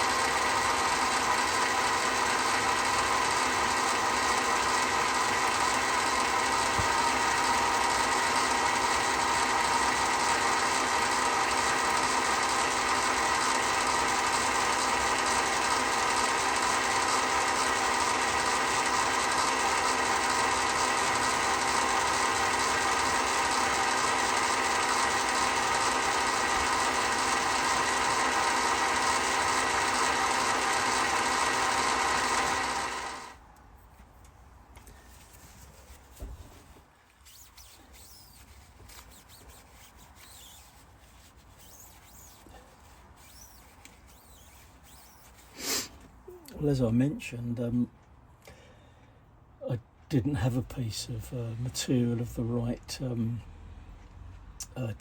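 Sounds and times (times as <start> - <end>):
lathe whining: 0.0 - 33.5, 34.9 - 46.8.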